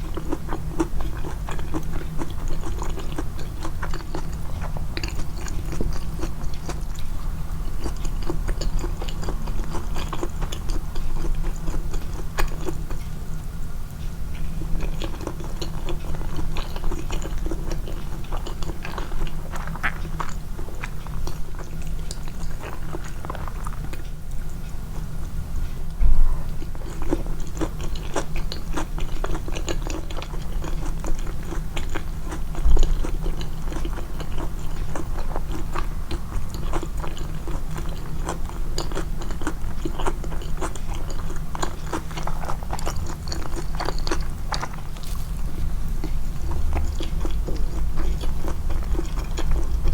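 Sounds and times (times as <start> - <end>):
person chewing food: 0.0 - 13.2, 14.0 - 49.9.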